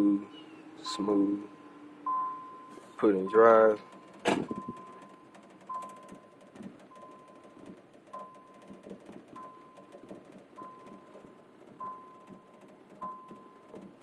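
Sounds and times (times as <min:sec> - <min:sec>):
car warning chime dinging: 0:00.0 - 0:14.0
engine knocking and rattling: 0:00.0 - 0:14.0.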